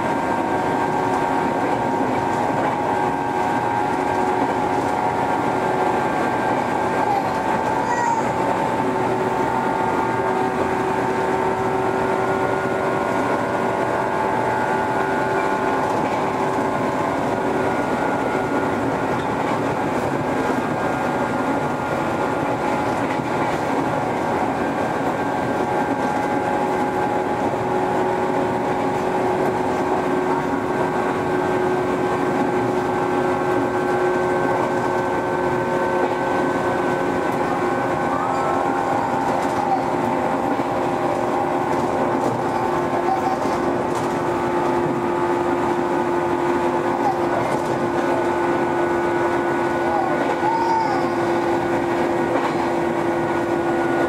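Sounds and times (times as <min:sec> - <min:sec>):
traction motor whine: 0:00.0 - 0:54.0
train wheels rumbling on rail: 0:00.0 - 0:54.0.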